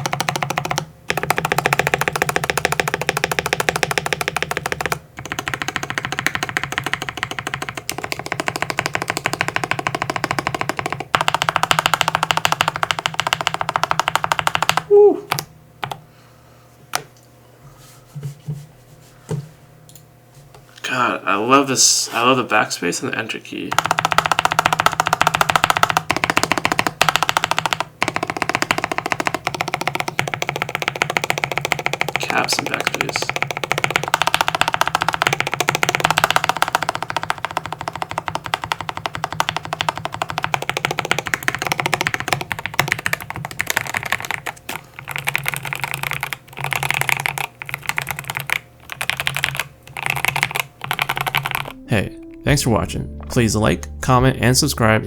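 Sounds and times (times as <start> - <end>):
mechanical keyboard typing: 0.0 - 16.0, 23.7 - 51.9.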